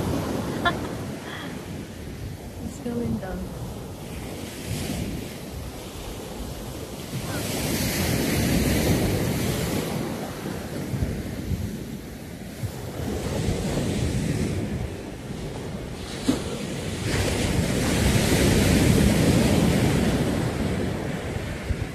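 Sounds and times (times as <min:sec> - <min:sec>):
ocean surf breaking on shore: 0:00.0 - 0:21.9
wind rumbling on microphone: 0:00.0 - 0:21.9.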